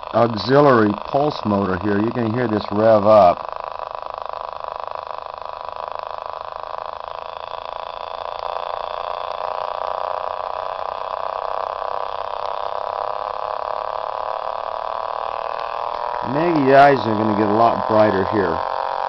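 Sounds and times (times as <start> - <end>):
electric motor buzzing hum: 0.0 - 19.0.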